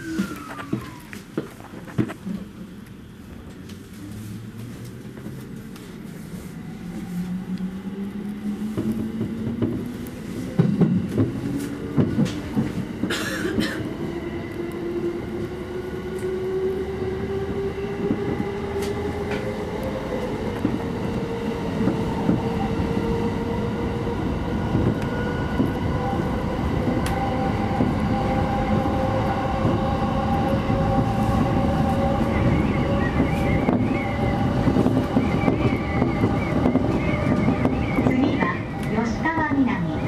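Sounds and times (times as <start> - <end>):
wheels rumbling on track: 0.0 - 13.8, 15.0 - 40.0.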